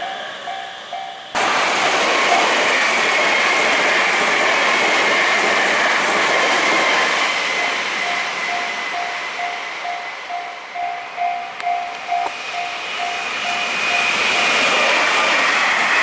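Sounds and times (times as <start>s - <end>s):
electric train passing: 0.0s - 16.0s.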